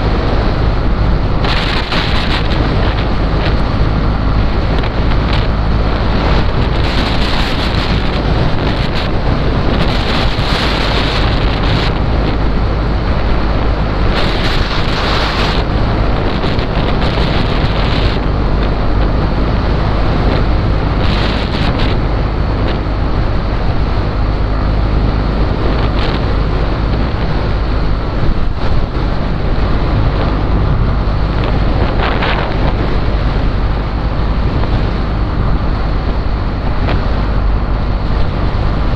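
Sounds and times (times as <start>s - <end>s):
motorcycle engine drone: 0.0s - 38.9s
road noise: 0.0s - 38.9s
wind buffeting microphone: 0.0s - 38.9s.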